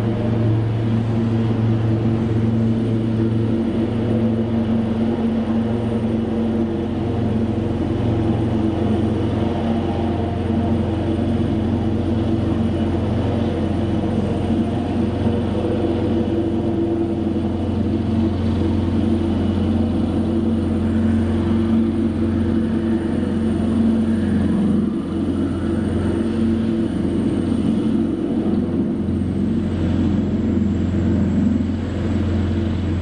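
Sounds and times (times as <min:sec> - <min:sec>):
helicopter rotor beat: 0:00.0 - 0:33.0
turbine whine: 0:00.0 - 0:33.0.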